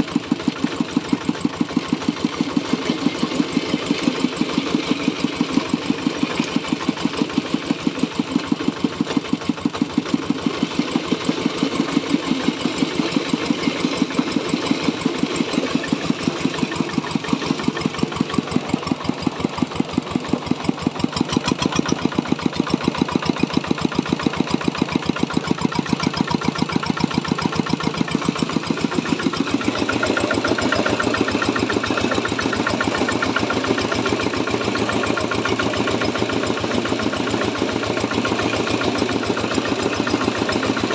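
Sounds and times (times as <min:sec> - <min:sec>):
diesel engine running mill: 0:00.0 - 0:40.9.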